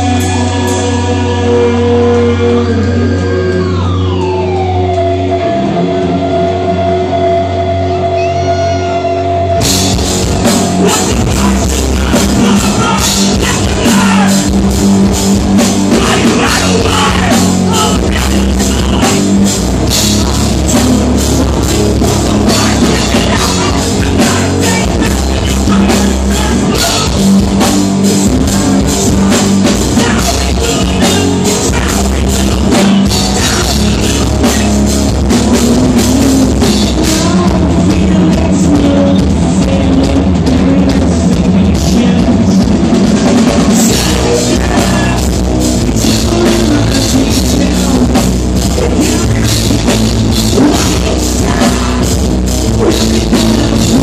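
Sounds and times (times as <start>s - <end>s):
live rock band: 0.0s - 54.0s.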